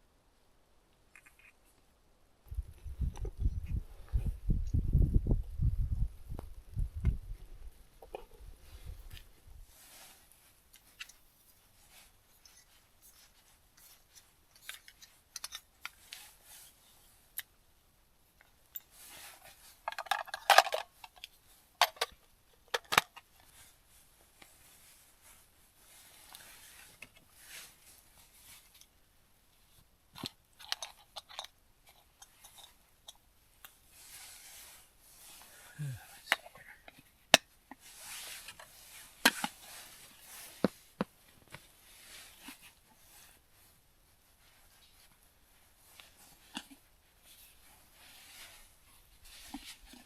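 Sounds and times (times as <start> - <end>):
rustling: 7.3 - 17.5, 18.4 - 22.0, 22.9 - 50.0.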